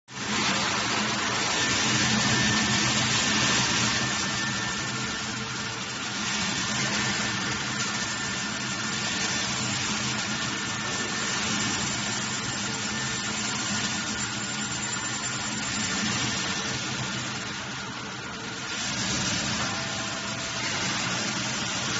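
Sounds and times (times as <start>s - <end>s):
corn crusher grinding: 0.1s - 21.9s
corn kernels pouring: 0.2s - 14.6s, 18.6s - 21.9s.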